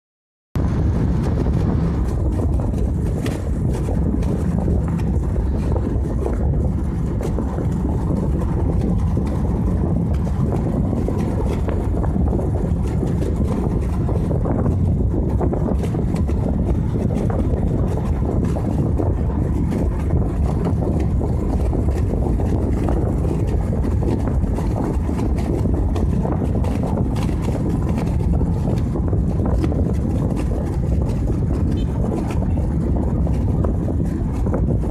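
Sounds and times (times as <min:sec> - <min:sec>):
road noise from moving vehicle: 0:00.6 - 0:34.9
wind noise: 0:00.6 - 0:34.9.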